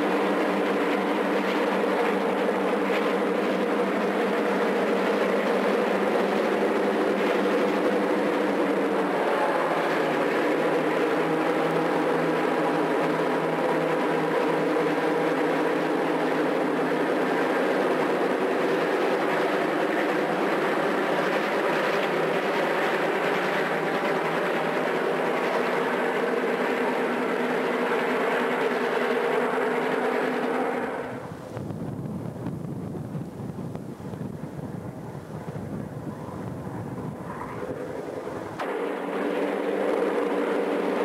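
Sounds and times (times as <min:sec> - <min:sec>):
diesel locomotive engine drone: 0:00.0 - 0:41.0
train rumbling past: 0:00.0 - 0:41.0.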